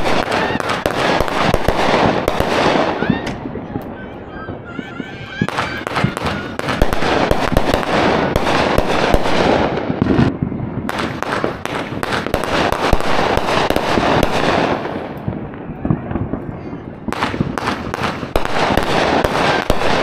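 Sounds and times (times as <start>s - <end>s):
fireworks bangs: 0.0s - 20.0s
fireworks crackling and popping: 0.0s - 20.0s.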